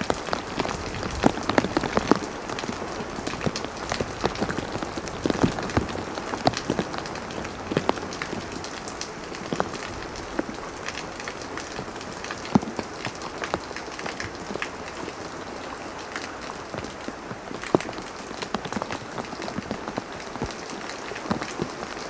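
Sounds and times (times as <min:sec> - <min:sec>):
heavy rain falling: 0:00.0 - 0:22.0
raindrops ticking on surfaces: 0:00.0 - 0:22.0.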